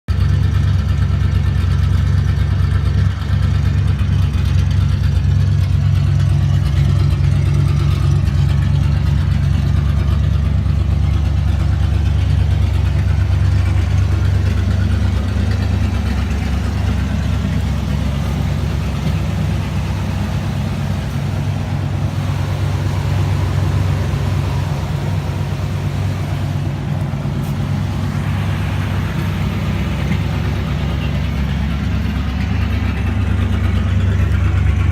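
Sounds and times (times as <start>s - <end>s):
engine idling through straight pipes: 0.0s - 34.9s.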